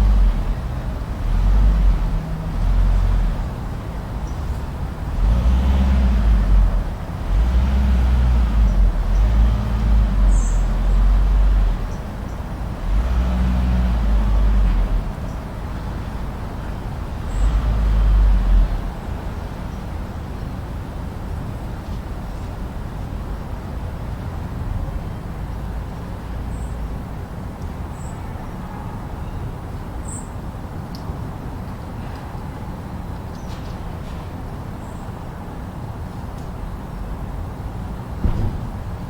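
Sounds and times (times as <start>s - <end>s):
low rumbling noise with hiss: 0.0s - 39.0s.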